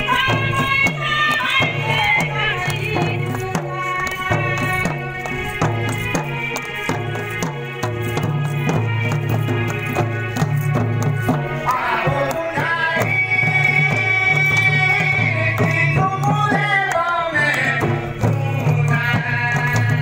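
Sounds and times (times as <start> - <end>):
person singing: 0.0 - 9.4, 11.3 - 20.0
barrel drums beating: 0.0 - 20.0.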